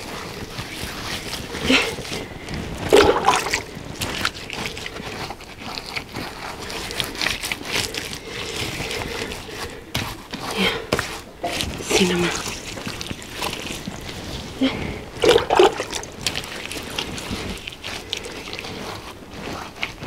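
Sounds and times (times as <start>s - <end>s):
wet mud slapping and scraping: 0.0s - 20.0s.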